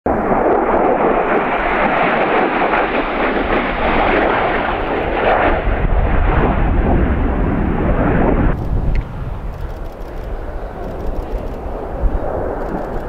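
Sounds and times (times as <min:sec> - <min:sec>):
jet engine flying past: 0:00.1 - 0:13.0.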